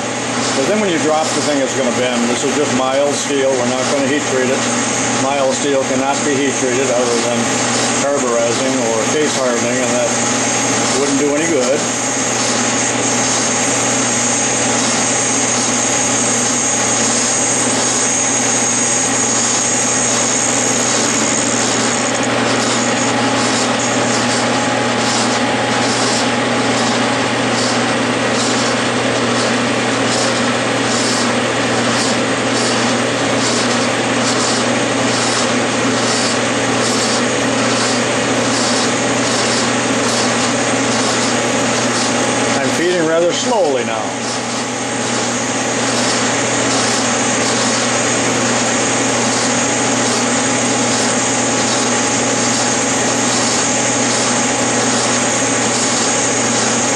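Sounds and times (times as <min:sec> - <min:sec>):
high whine: 0:00.0 - 0:56.9
lathe motor hum: 0:00.0 - 0:56.9.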